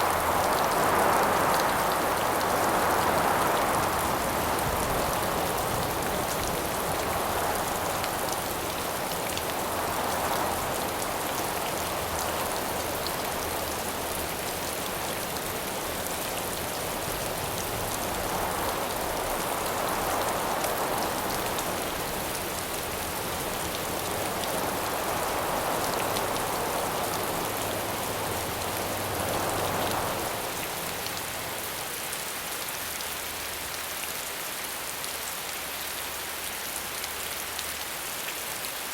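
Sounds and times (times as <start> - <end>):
wind gusts: 0.0 - 31.8
rain pattering: 0.0 - 38.9.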